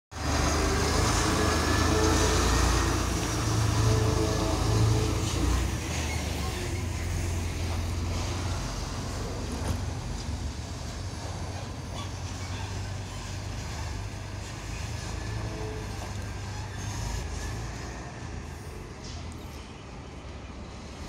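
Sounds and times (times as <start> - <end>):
diesel machinery rumbling: 0.1 - 21.0.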